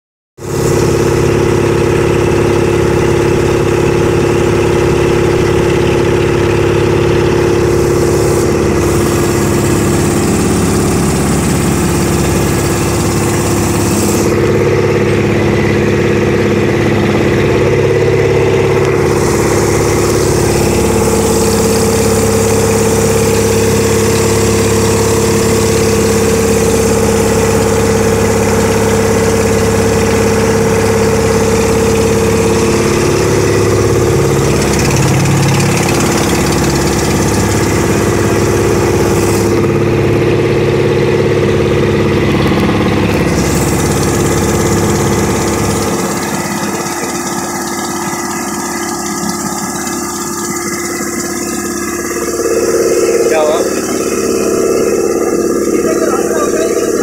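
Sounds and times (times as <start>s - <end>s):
boat engine droning: 0.4s - 57.0s.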